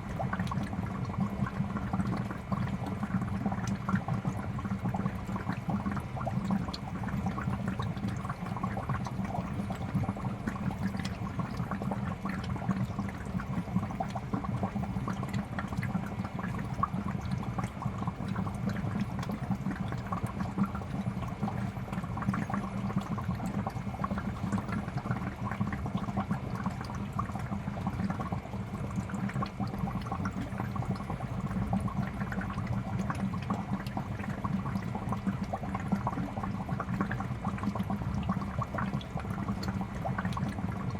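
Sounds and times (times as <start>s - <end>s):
water bubbling in fish tank: 0.0s - 40.9s.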